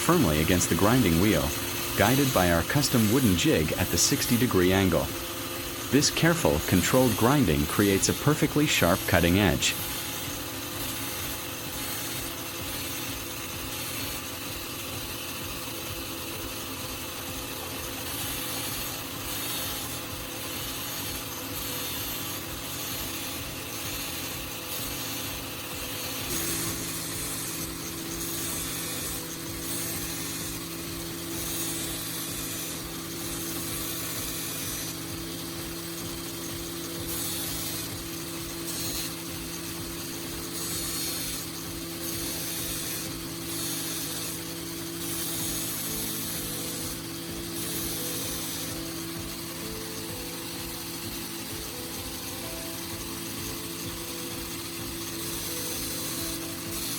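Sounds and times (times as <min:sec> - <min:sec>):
angle grinder grinding metal: 0:00.0 - 0:56.9.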